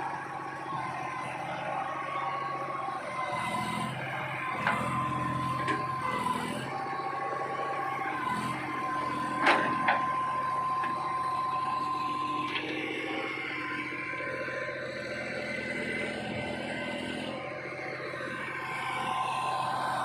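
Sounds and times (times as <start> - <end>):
diesel engine whining: 0.0 - 20.0.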